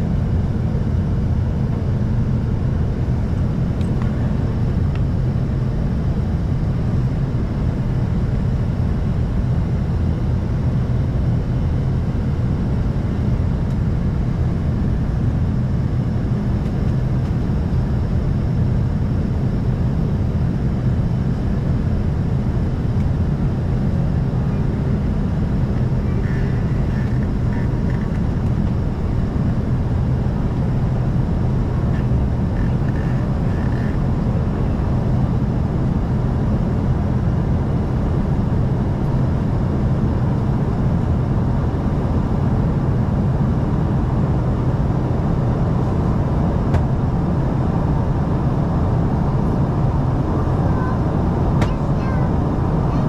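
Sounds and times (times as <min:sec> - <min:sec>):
jet cabin engine and airflow noise: 0:00.0 - 0:53.0
low hum: 0:00.0 - 0:53.0.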